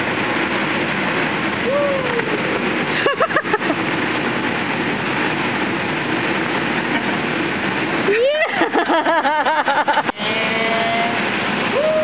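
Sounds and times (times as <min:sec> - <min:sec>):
electric blower rushing: 0:00.0 - 0:12.0.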